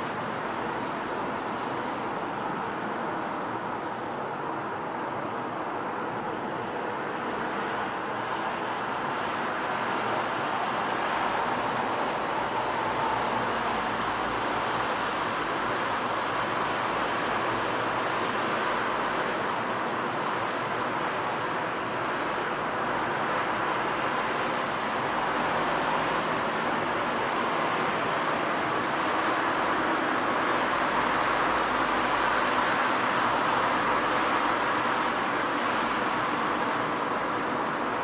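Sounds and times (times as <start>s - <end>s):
distant road traffic hum: 0.0s - 38.0s.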